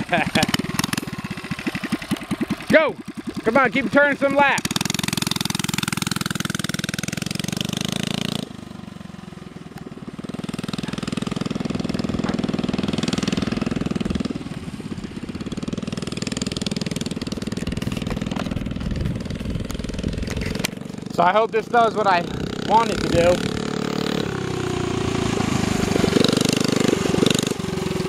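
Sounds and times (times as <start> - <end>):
mini bike engine revving: 0.0 - 28.0.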